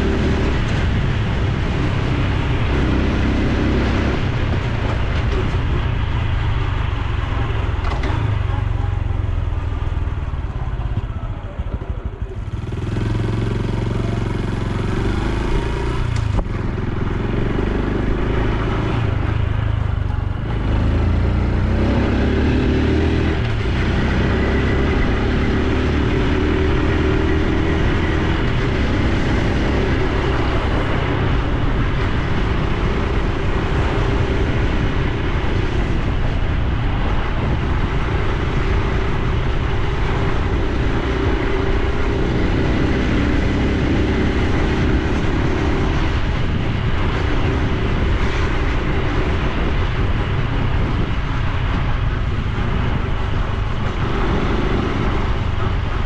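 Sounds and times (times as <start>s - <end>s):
motorcycle engine riding: 0.0s - 56.0s.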